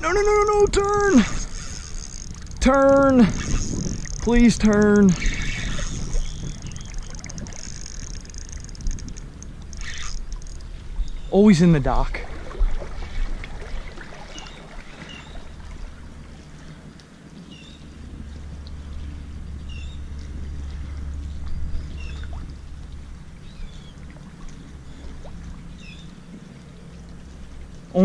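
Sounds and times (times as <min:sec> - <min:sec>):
shallow water sloshing: 0:00.0 - 0:27.9.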